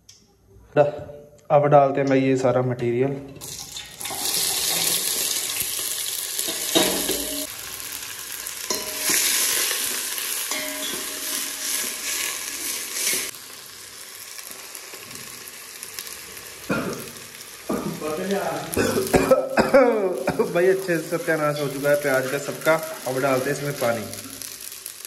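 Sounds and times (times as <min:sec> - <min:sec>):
vegetables sizzling in hot oil: 0:03.4 - 0:25.0.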